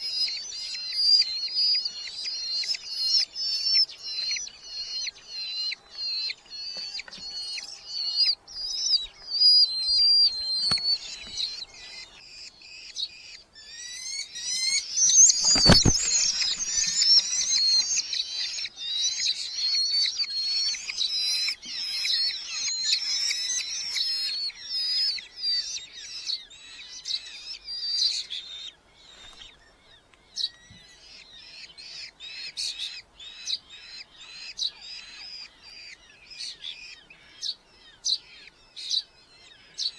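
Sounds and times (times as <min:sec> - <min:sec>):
falcon chicks calling: 0:00.0 - 0:39.9.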